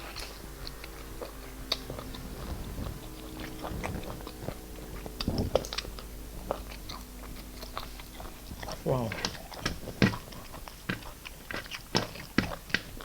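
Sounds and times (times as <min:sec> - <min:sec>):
chewing with wet smacks: 0:00.0 - 0:13.0.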